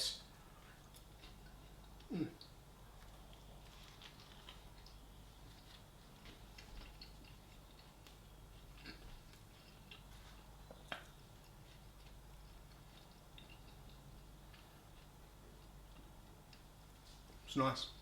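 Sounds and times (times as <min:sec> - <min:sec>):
faint chewing with mouth clicks: 0:00.6 - 0:17.5.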